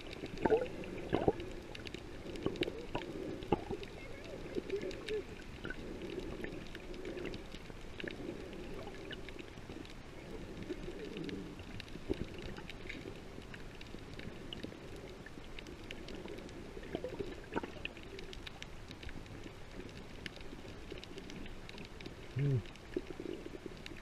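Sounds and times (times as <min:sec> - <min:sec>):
faint clicks and crackles: 0:00.0 - 0:24.0
muffled underwater rumble: 0:00.0 - 0:24.0.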